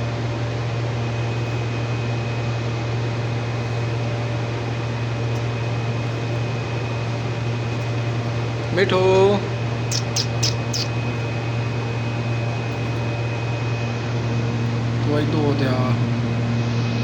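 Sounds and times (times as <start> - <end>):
faint high whine: 0.0 - 17.0
machine hiss and low hum: 0.0 - 17.0.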